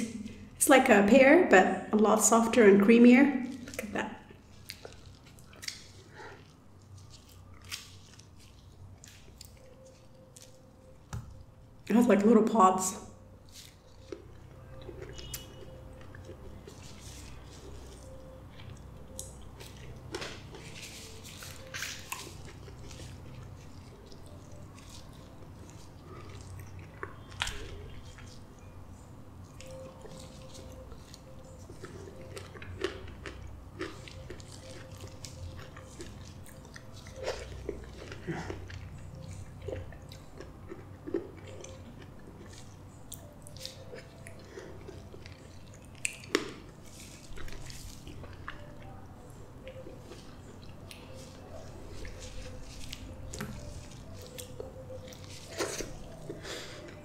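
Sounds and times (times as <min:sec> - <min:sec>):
wet chewing: 0:02.9 - 0:57.0.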